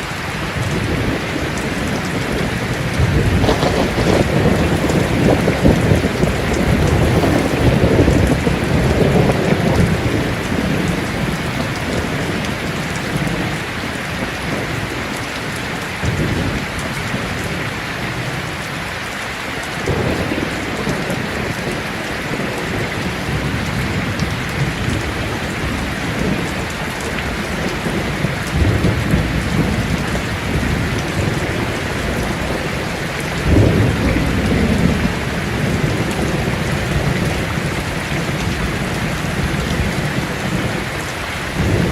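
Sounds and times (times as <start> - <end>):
heavy rain on a tin roof: 0.0 - 41.9
thunder rolling: 0.5 - 13.6, 19.9 - 41.9.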